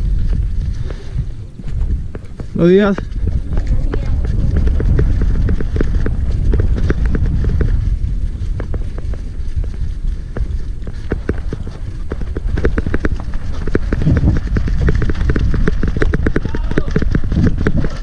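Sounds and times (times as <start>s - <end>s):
wind and tyre rumble: 0.0s - 18.0s
bike chain and frame rattling: 1.7s - 18.0s.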